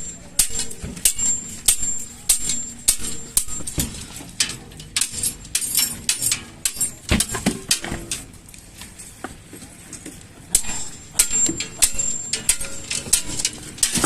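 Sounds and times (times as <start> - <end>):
sharp metallic clinks and knocks: 0.0 - 8.3, 10.5 - 14.0.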